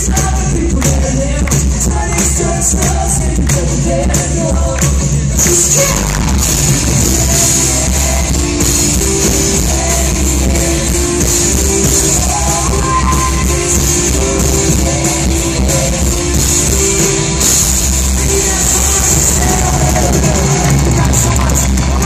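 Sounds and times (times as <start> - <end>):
drums: 0.0 - 22.0
electric guitars: 0.0 - 22.0
live rock band playing: 0.0 - 22.0.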